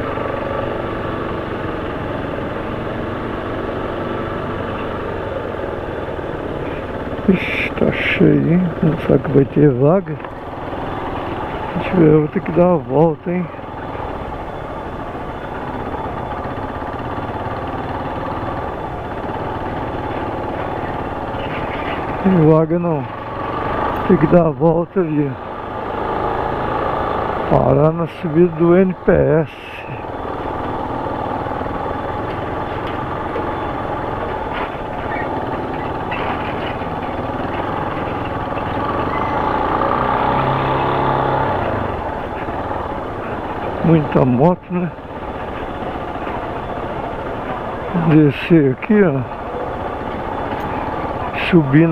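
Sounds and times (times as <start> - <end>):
motorcycle engine running: 0.0 - 51.9
wind and road noise: 0.0 - 51.9.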